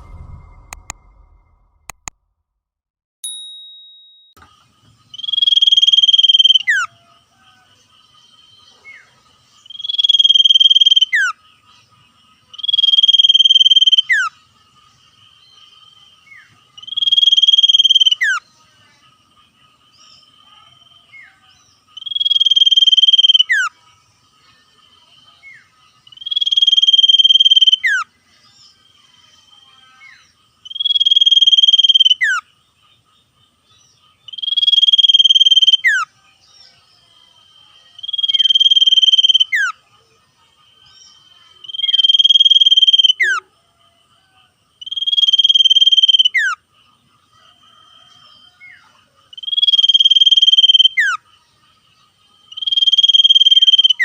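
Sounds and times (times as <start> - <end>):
bird singing buzzy trills: 4.4 - 43.5, 44.8 - 54.0.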